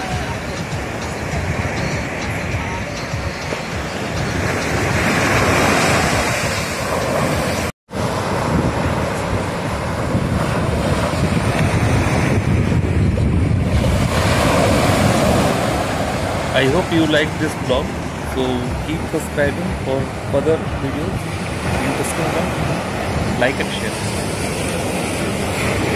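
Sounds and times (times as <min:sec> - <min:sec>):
surf breaking on a beach: 0:00.0 - 0:25.9
wind buffeting microphone: 0:00.0 - 0:25.9.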